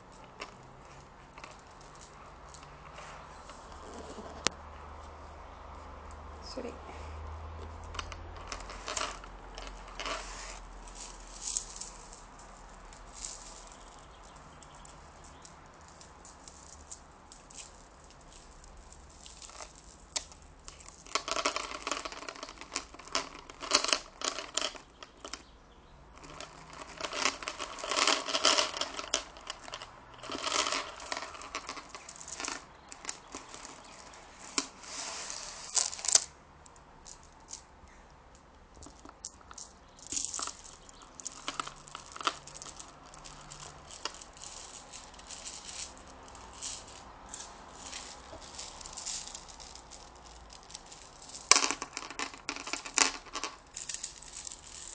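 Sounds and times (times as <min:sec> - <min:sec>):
crinkling and rustling: 0:00.0 - 0:06.2, 0:07.6 - 0:25.5, 0:26.1 - 0:54.9.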